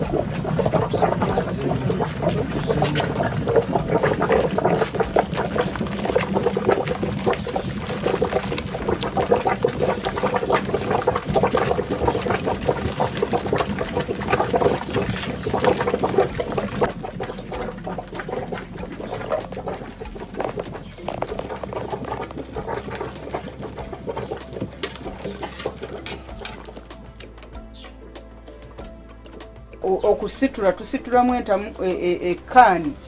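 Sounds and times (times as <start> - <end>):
milk splashing and sloshing: 0.0 - 27.4.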